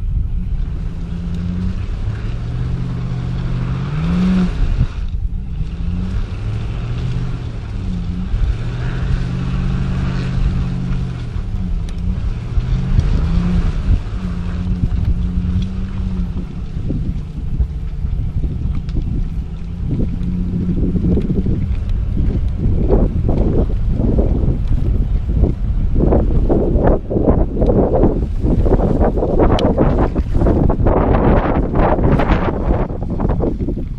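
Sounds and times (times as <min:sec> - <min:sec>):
boat motor running: 0:00.0 - 0:33.9
wind on microphone: 0:00.0 - 0:33.9.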